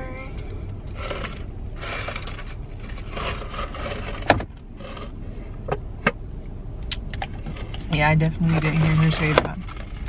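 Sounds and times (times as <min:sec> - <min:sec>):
car cabin rumble while driving: 0:00.0 - 0:10.0.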